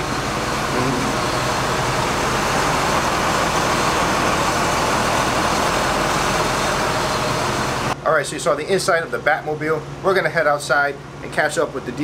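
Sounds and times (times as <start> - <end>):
air conditioner low hum: 0.0 - 12.0.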